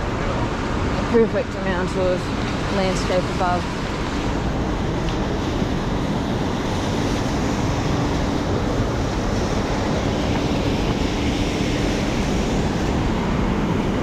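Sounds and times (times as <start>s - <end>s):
city street traffic: 0.0s - 14.0s
heavy rain: 0.0s - 14.0s.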